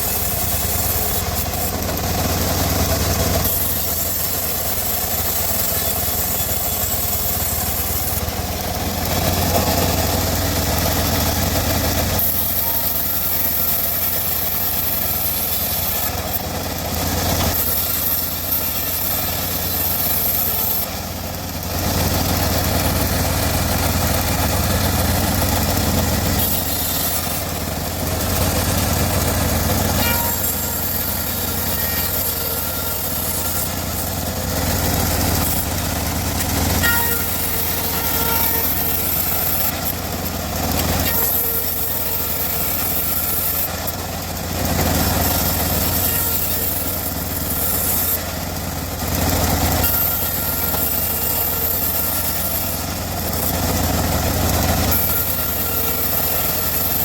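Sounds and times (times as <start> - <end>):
motor drone: 0.0 - 57.0
saw blade cutting wood: 0.0 - 57.0.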